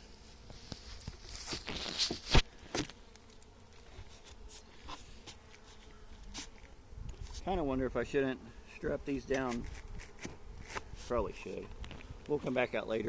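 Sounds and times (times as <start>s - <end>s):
honeybees buzzing: 0.0s - 13.0s
knocks and scrapes on hive: 0.0s - 13.0s.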